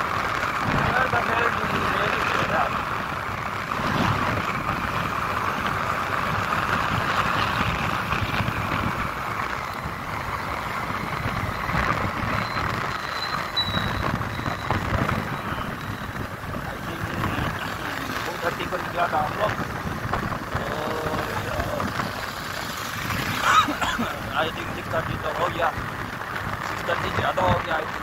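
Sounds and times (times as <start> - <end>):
motorcycle engine rumble: 0.0 - 28.0
road and wind noise: 0.0 - 28.0.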